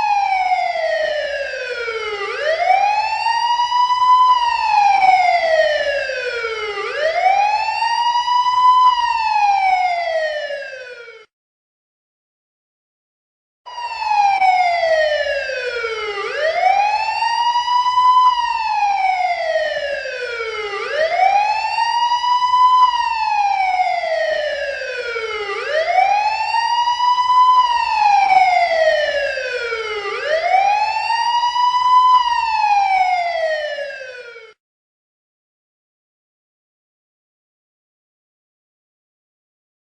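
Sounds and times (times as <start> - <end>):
siren wailing: 0.0 - 11.3, 13.7 - 34.6.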